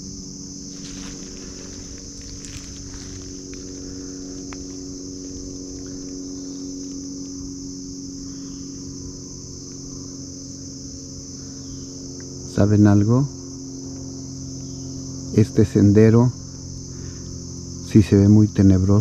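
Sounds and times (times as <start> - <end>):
crickets chirring: 0.0 - 19.0
low hum: 0.0 - 19.0.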